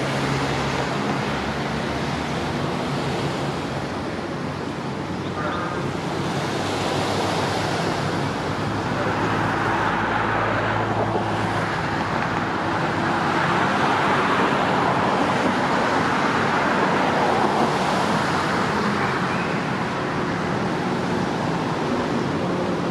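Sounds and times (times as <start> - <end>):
road traffic noise: 0.0 - 22.9.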